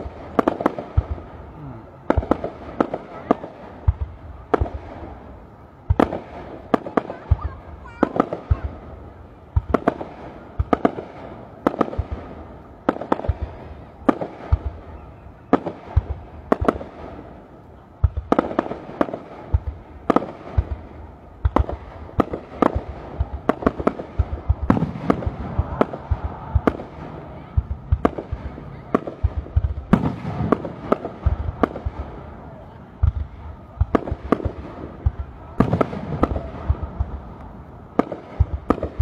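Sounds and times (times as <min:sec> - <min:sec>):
firework shells exploding: 0:00.0 - 0:39.0.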